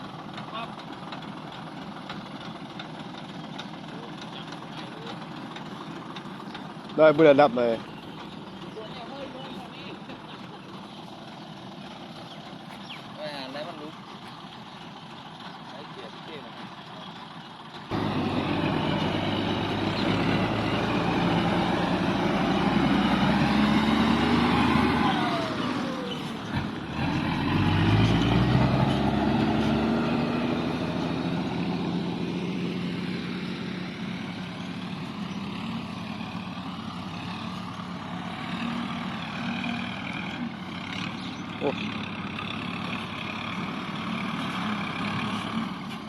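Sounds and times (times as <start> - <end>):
truck diesel engine accelerating: 0.0 - 46.0.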